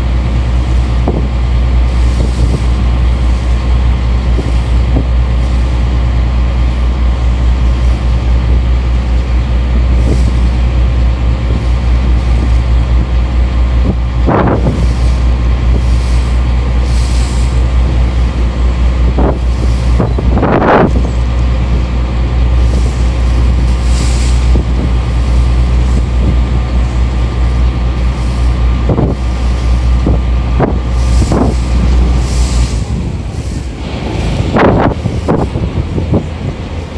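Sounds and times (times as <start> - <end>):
boat engine drone: 0.0 - 36.9
wind buffeting microphone: 0.0 - 36.9.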